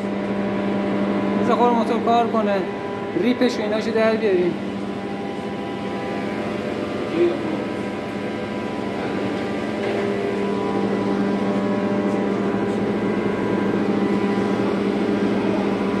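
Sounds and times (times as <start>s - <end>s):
diesel generator droning: 0.0s - 16.0s
strong steady hum: 0.0s - 16.0s.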